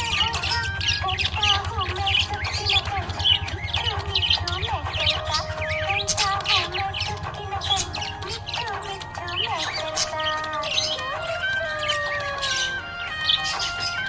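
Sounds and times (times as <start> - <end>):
budgerigars chirping and warbling: 0.0 - 14.0
steady low hum: 0.0 - 14.0.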